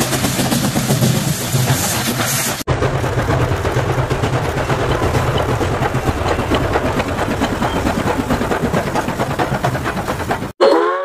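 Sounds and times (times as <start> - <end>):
rail clatter: 0.0 - 10.6
steam locomotive chuffing: 0.0 - 10.6.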